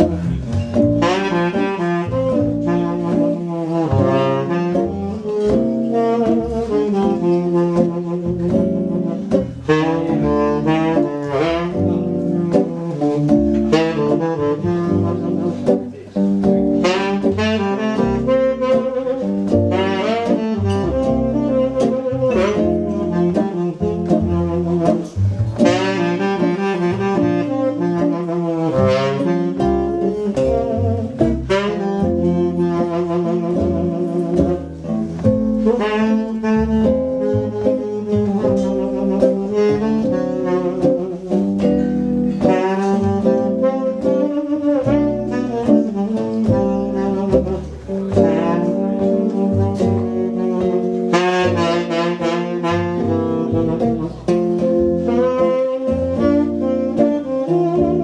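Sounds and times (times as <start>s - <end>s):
archtop guitar: 0.0s - 58.0s
double bass: 0.0s - 58.0s
saxophone lead line: 0.0s - 58.0s.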